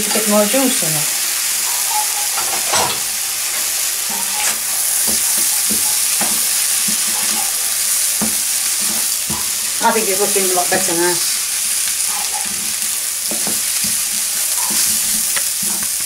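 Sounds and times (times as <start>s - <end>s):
fried rice sizzling in a wok: 0.0s - 16.0s
wooden spoon scraping a pan: 1.5s - 16.0s.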